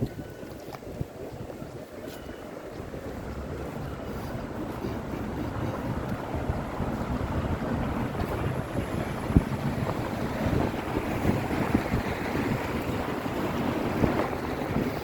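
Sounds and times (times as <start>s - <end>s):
traffic rumble: 0.0s - 15.0s
wind buffeting microphone: 0.0s - 15.0s.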